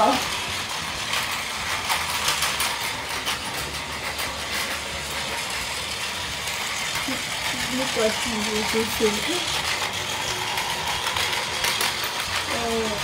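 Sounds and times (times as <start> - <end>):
toy train motor whirring: 0.0 - 13.0
wheels clicking over track joints: 0.0 - 13.0.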